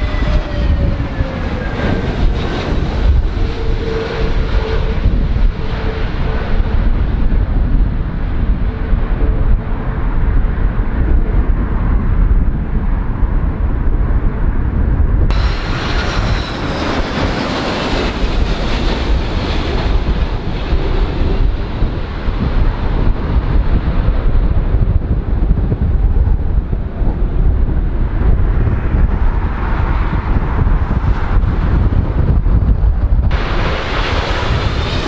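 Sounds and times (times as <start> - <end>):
jet airliners landing: 0.0 - 12.0, 13.0 - 35.0
jet turbofan whine: 0.0 - 35.0
wind buffeting microphone: 0.0 - 35.0.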